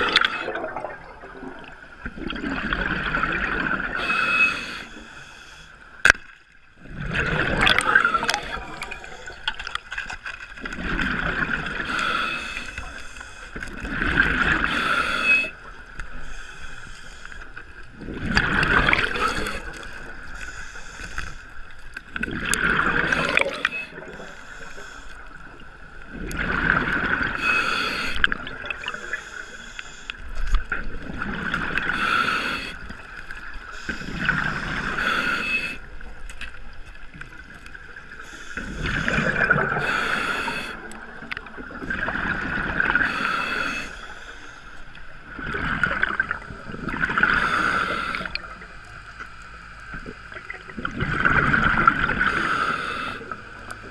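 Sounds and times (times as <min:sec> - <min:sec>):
underwater exhaled bubbles rushing: 0:00.0 - 0:04.9, 0:06.6 - 0:15.9, 0:17.8 - 0:20.4, 0:22.0 - 0:24.4, 0:25.2 - 0:29.2, 0:30.4 - 0:43.8, 0:45.2 - 0:48.7, 0:50.0 - 0:53.9.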